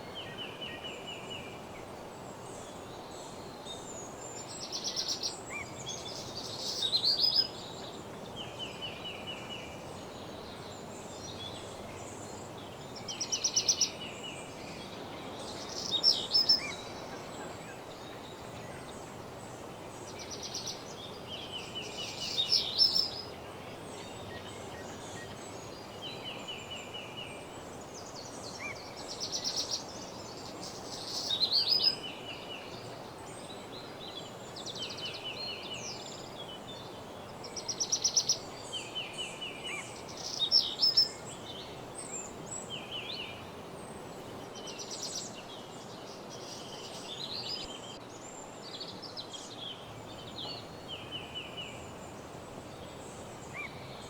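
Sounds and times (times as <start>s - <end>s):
background hiss: 0.0s - 54.0s
songbirds singing: 0.0s - 54.0s.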